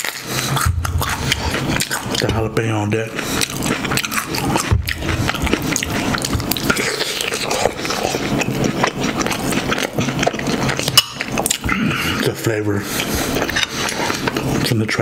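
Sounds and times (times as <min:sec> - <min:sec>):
person crunching a pepper: 0:00.0 - 0:14.8.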